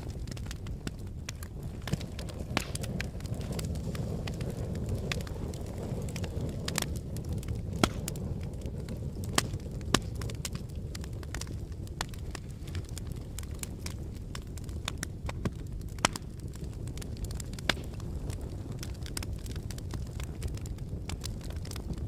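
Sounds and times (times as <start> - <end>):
sharp cracks and snaps: 0.0 - 22.0
volcanic eruption rumble: 0.0 - 22.0.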